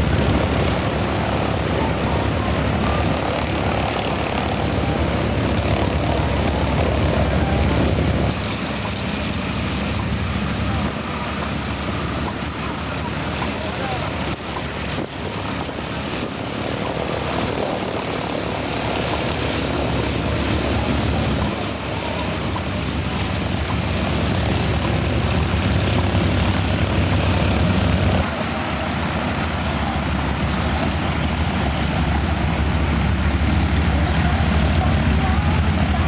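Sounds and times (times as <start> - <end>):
propeller aircraft engine: 0.0 - 36.0.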